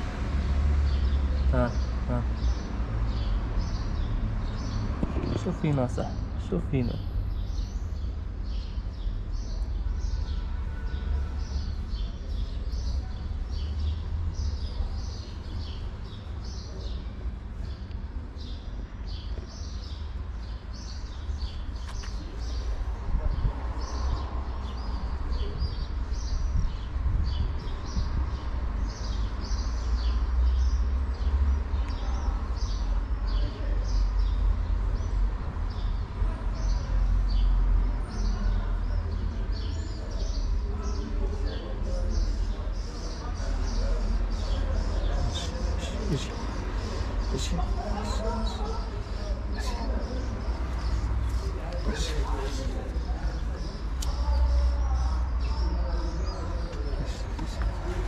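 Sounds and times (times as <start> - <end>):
small birds chirping: 0.5 - 58.0.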